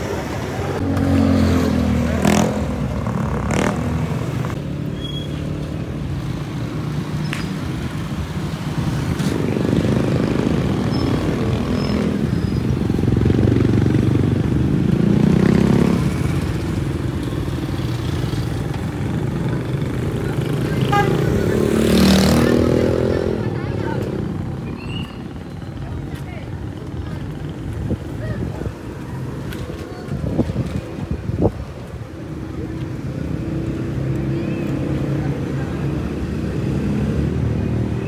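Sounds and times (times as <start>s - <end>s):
vehicle engines passing: 0.0s - 38.0s.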